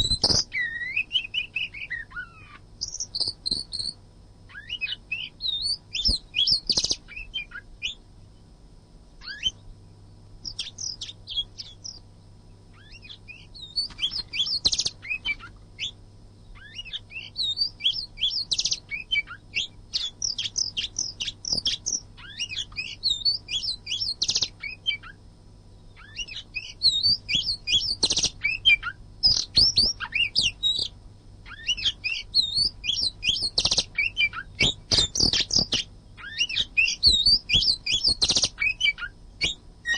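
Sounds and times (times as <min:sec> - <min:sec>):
bird whistled song: 0:00.0 - 0:08.0, 0:09.2 - 0:09.7, 0:10.4 - 0:12.0, 0:12.7 - 0:25.2, 0:25.9 - 0:39.9
faint low hum: 0:00.0 - 0:39.9.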